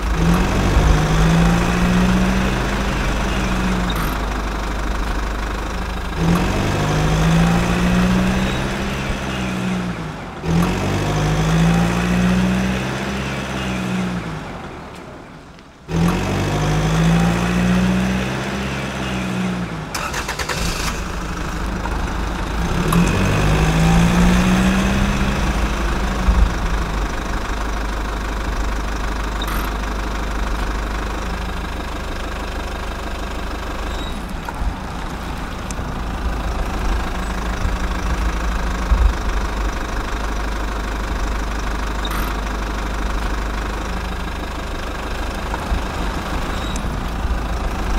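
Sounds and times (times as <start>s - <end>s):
engine revving: 0.0s - 15.0s, 15.9s - 47.9s.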